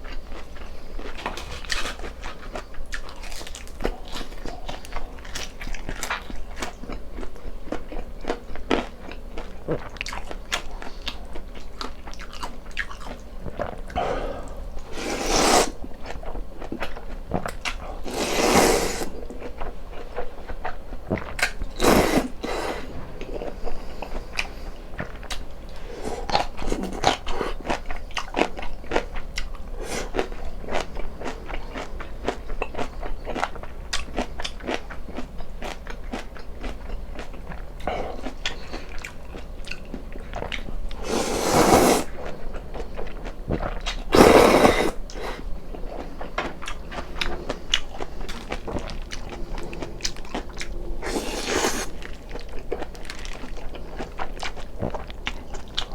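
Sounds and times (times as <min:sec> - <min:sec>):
chewing and biting: 0:00.0 - 0:14.0, 0:15.2 - 0:55.9.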